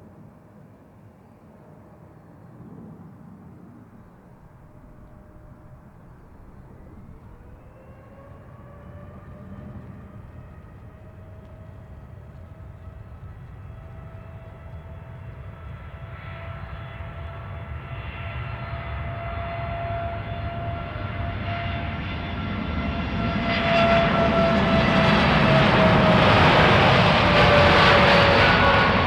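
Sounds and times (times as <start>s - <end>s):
jet engines at takeoff thrust: 0.0s - 29.0s.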